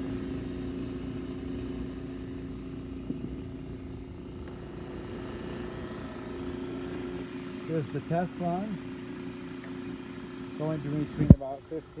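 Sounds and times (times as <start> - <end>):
vacuum motor humming: 0.0 - 12.0.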